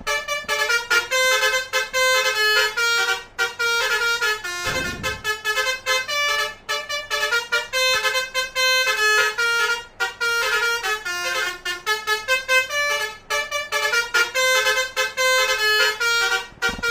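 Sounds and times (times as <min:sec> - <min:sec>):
multi-tone horn playing a tune: 0:00.0 - 0:16.9.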